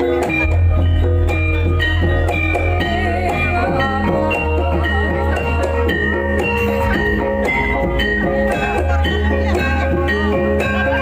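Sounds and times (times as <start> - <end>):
steady heavy bass: 0.0 - 11.0
struck metallophone notes: 0.0 - 11.0.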